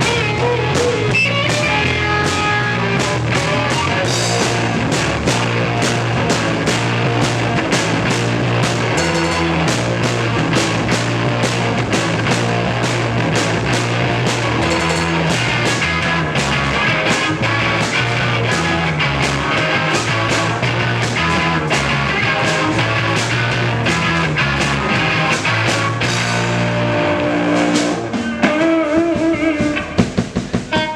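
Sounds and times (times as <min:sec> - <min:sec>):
guitar ringing notes: 0:00.0 - 0:30.9
punk rock band playing: 0:00.0 - 0:30.9.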